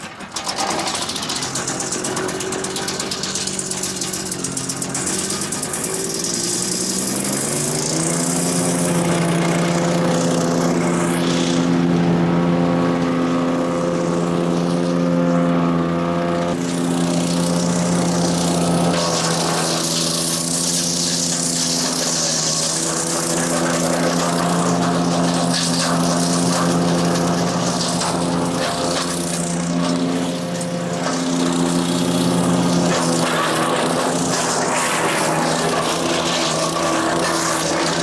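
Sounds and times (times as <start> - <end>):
small engine revving up: 0.0 - 38.0.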